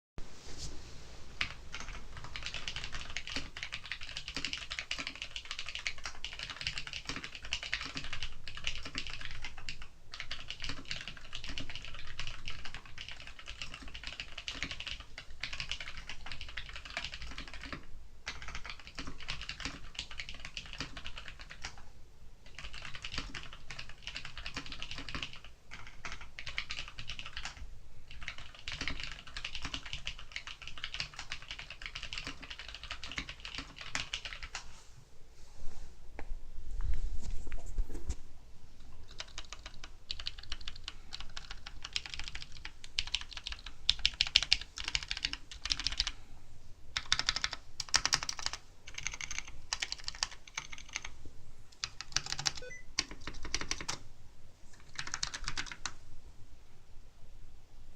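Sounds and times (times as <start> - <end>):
mechanical keyboard typing: 1.4 - 21.8, 22.4 - 34.6, 39.1 - 46.2, 47.0 - 51.2, 51.8 - 54.0, 54.8 - 56.0.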